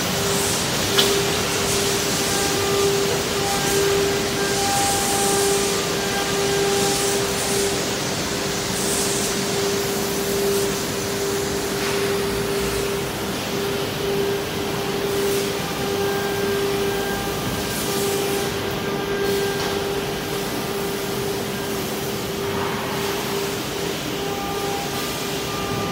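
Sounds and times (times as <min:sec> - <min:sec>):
broad machine hiss: 0:00.0 - 0:25.8
machine humming tone: 0:00.0 - 0:25.9.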